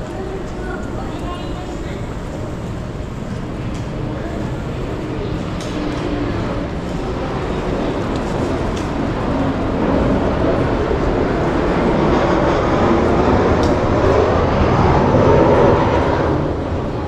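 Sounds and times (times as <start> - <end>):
passing vehicle rumble: 2.0 - 17.0.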